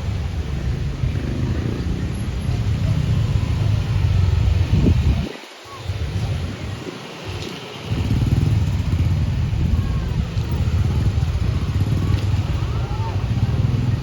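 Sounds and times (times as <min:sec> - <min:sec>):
rumble of vehicle engines: 0:00.0 - 0:14.0.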